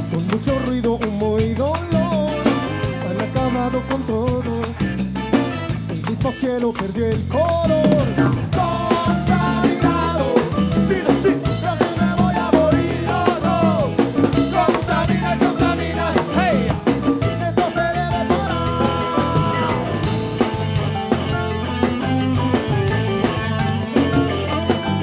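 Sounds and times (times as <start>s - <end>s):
bass guitar: 0.0s - 25.0s
drum kit beat: 0.0s - 25.0s
melodic lead line: 1.9s - 6.2s, 7.6s - 25.0s.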